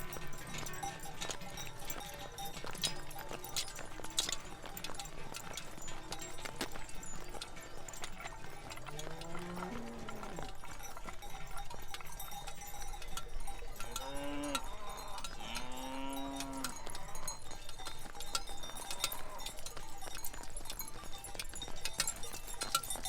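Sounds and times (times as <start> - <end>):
cowbells clanging: 0.0 - 23.0.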